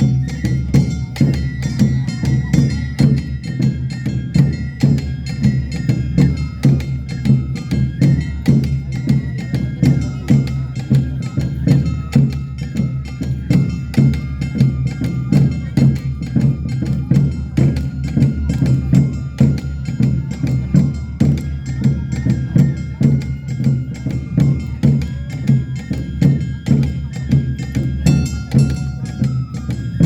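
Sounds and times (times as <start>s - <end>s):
bell-like metal percussion: 0.0s - 30.0s
drums beating fast rhythm: 0.0s - 30.0s.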